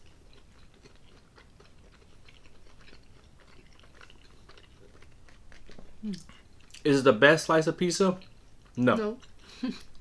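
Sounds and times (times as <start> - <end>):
people chewing pizza: 0.0 - 10.0.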